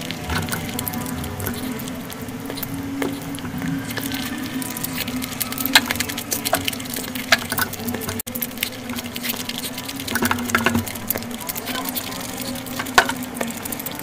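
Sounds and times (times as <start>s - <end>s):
fingers squishing through rice: 0.0s - 14.0s
steady low hum: 0.0s - 14.0s
wet chewing and lip smacks: 0.0s - 14.0s.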